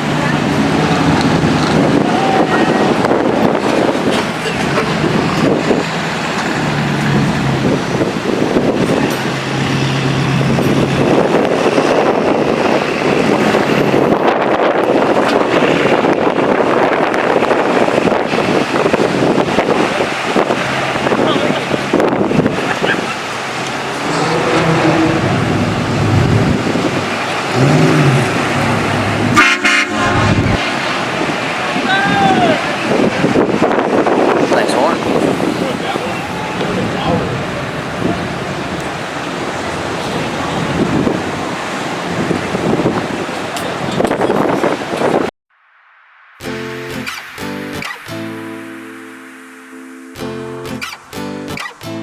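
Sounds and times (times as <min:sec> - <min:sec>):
truck engines passing by: 0:00.0 - 0:45.3
wind buffeting microphone: 0:00.0 - 0:45.3.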